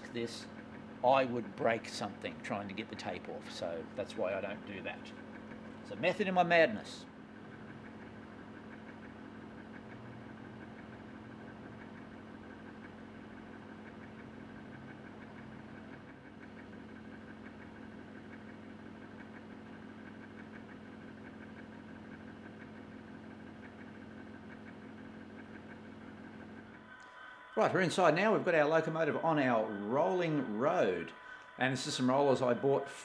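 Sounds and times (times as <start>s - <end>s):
compressor motor humming: 0.0s - 33.0s.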